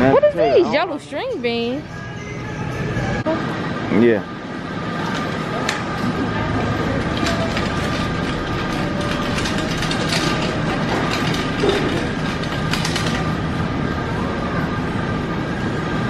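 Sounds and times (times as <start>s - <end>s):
hum of store machinery: 0.0s - 16.0s.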